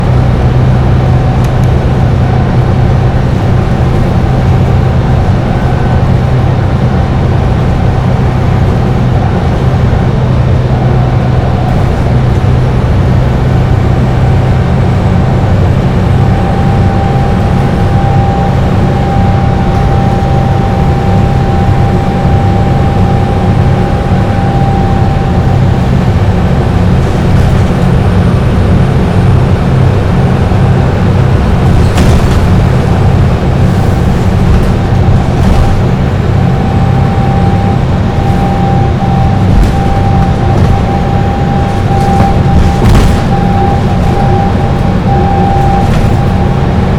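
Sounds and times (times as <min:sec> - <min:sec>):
bus engine droning: 0:00.0 - 0:46.9
thin steady whine: 0:00.0 - 0:46.9.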